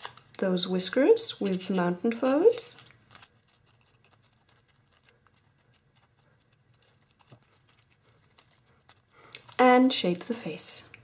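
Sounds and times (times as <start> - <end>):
foil paper crinkling and ticking: 0.0 - 0.4, 1.4 - 10.2.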